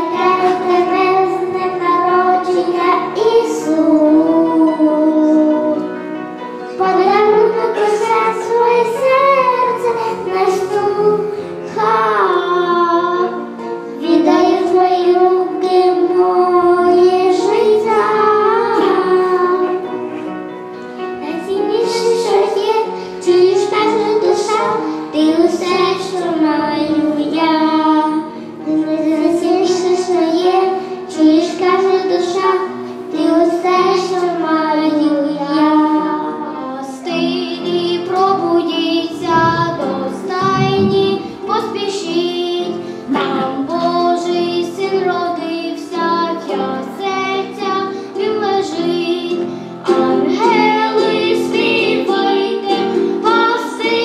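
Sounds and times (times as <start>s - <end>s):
child singing: 0.0s - 6.0s, 6.7s - 20.0s, 21.2s - 54.0s
musical accompaniment: 0.0s - 54.0s.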